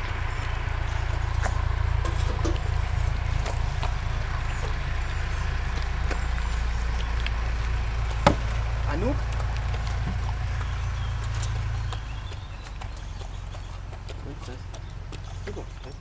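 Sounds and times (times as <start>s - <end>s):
dogs chewing kibble: 0.0s - 16.0s
steady low rumble: 0.0s - 16.0s.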